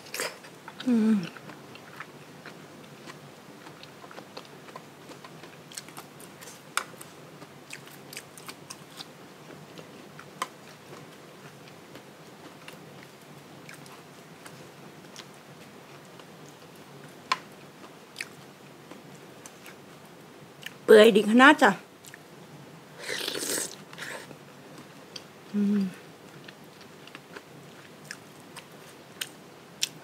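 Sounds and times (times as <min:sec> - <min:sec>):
person chewing food: 0:00.0 - 0:09.1, 0:09.7 - 0:19.8, 0:23.0 - 0:25.6, 0:26.3 - 0:30.0.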